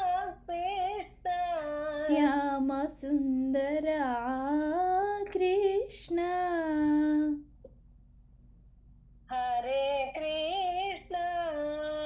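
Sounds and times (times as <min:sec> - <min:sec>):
woman singing: 0:00.0 - 0:07.5, 0:09.3 - 0:12.0.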